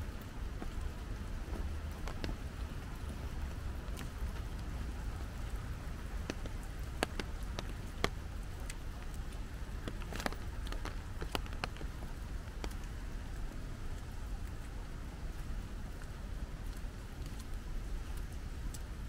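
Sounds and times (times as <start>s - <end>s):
rain hiss: 0.0s - 19.0s
raindrops ticking on surfaces: 0.0s - 19.0s.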